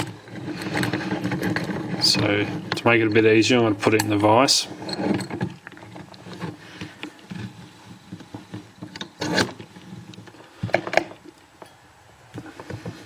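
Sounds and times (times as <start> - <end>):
scraping clatter: 0.0 - 11.7.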